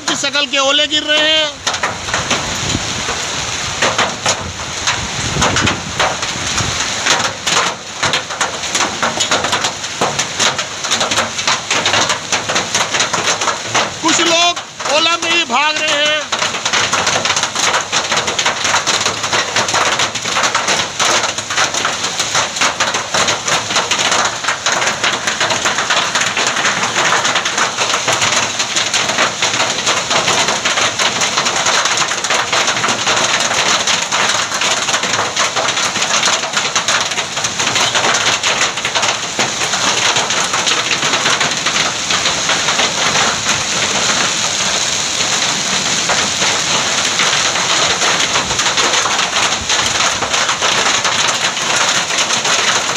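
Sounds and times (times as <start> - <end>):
hail pelting pavement: 0.0 - 52.9.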